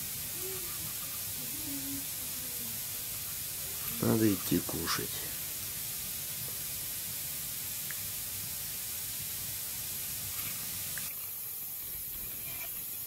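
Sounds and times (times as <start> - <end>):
wood fire hissing and crackling: 0.0 - 13.0.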